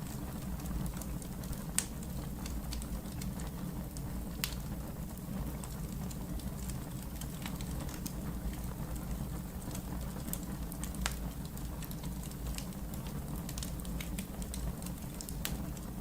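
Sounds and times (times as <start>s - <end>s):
fire crackles and pops: 0.0s - 16.0s
fire low rumble: 0.0s - 16.0s.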